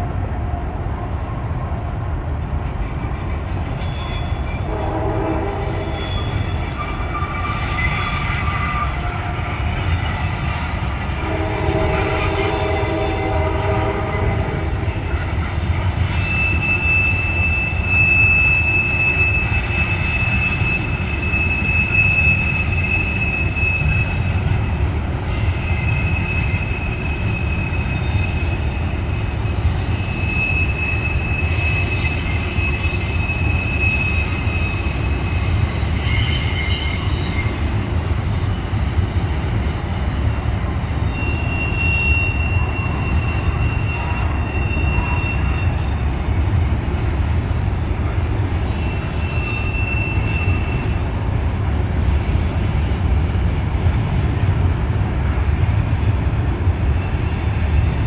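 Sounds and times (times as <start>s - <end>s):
high-pitched wheel squeals: 0.0s - 10.7s, 11.6s - 46.4s, 48.6s - 53.1s
freight train cars rumbling: 0.0s - 58.0s.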